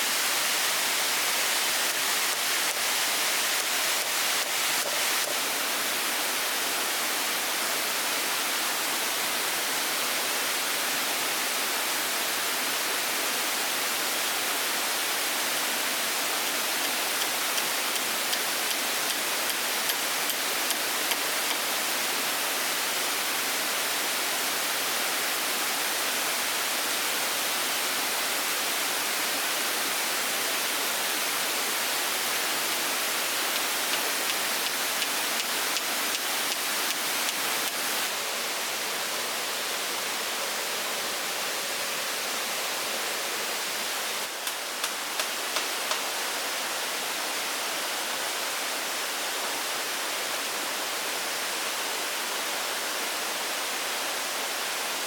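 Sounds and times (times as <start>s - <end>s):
outdoor background hiss: 0.0s - 55.0s.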